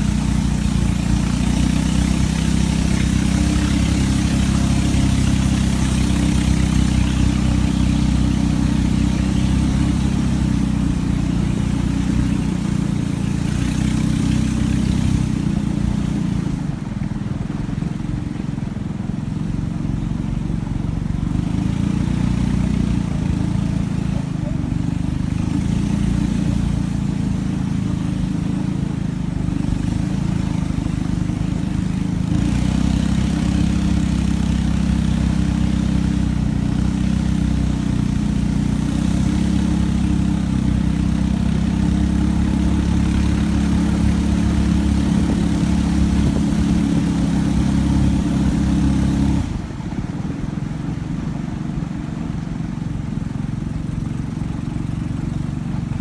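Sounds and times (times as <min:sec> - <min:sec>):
boat engine running: 0:00.0 - 0:56.0
rushing water: 0:00.0 - 0:56.0
wind: 0:00.0 - 0:56.0.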